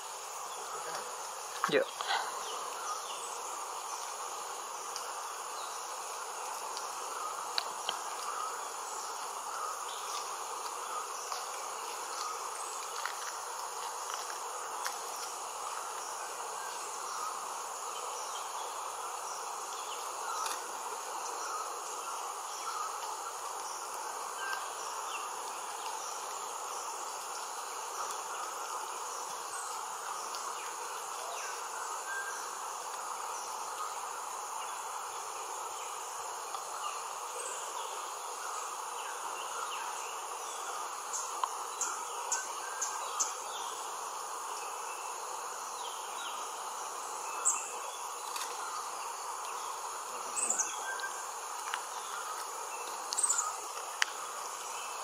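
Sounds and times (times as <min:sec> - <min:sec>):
insects trilling: 0:00.0 - 0:55.0
low insect hum: 0:00.0 - 0:55.0.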